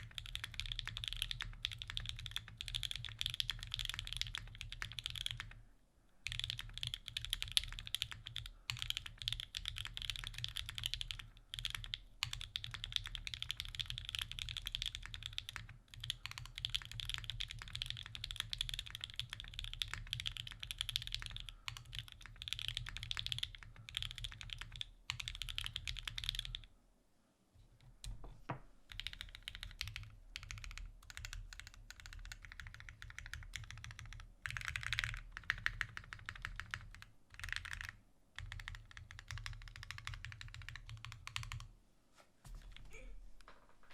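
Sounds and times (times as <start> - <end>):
typing on mechanical keyboard: 0.0 - 5.6, 6.2 - 26.7, 28.9 - 41.7.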